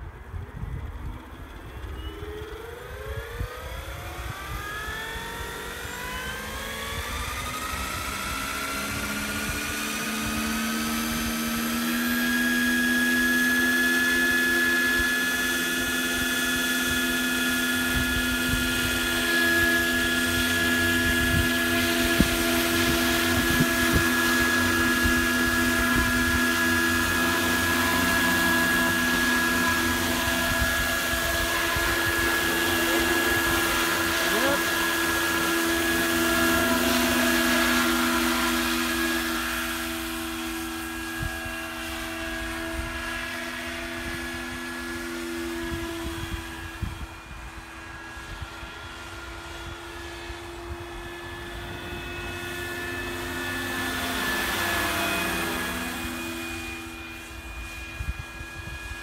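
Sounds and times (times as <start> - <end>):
model helicopter motor whine: 0.0 - 59.0.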